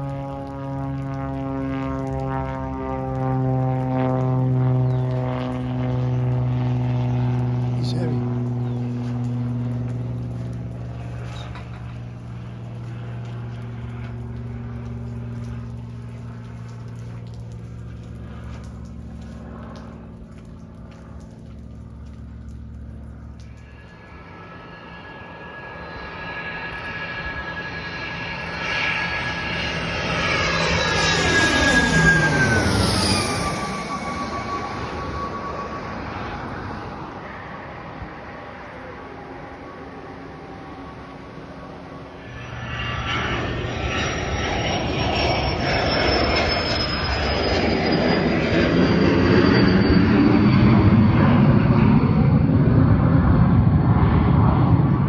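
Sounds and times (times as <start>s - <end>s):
airplane engines whining: 0.0s - 55.0s.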